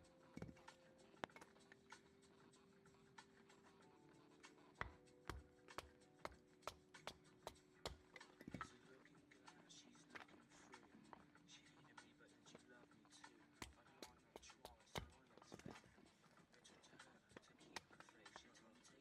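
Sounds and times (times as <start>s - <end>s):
faint music of held notes: 0.0s - 19.0s.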